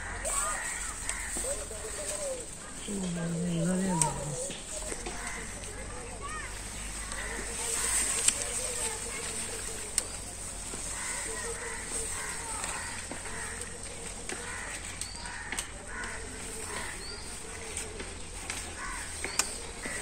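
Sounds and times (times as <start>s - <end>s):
crows cawing: 0.0s - 9.8s, 10.6s - 20.0s.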